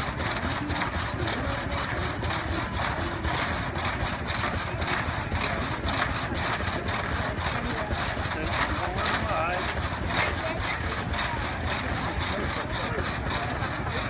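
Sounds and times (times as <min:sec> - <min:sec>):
drag saw cutting timber: 0:00.0 - 0:14.0.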